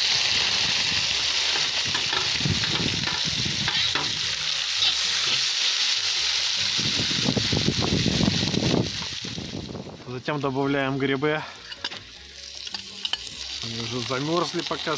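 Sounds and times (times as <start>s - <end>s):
vegetables sizzling in fat: 0.0s - 14.9s.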